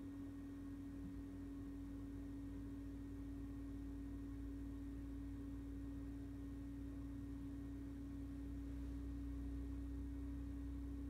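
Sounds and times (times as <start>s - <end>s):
faint low rumble: 0.0s - 11.0s
steady low hum: 0.0s - 11.0s.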